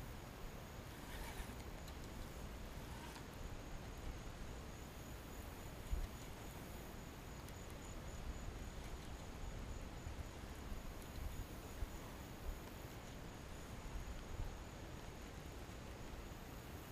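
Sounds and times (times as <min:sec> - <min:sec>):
insect chirping: 0:00.0 - 0:16.9.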